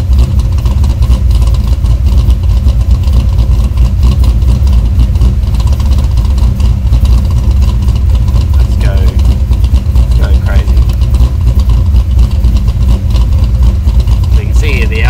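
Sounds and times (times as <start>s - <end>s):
lumpy engine idle: 0.0s - 15.0s.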